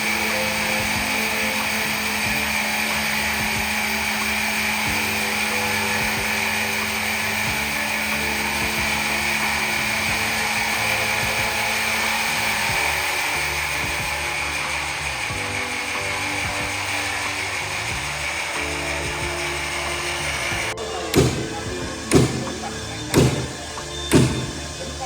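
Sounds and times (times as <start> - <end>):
background music: 0.0 - 25.0
power saw cutting timber: 0.0 - 25.0.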